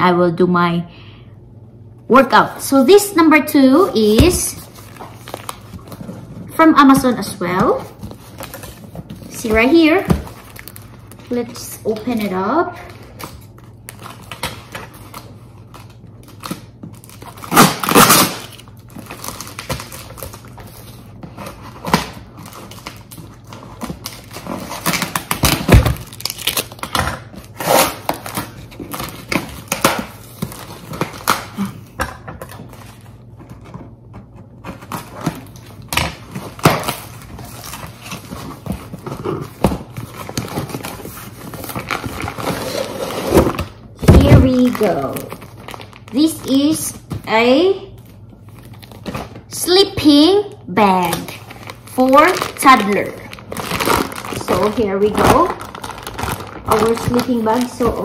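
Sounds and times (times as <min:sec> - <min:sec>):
packing tape and cardboard tearing: 0:02.6 - 0:58.0.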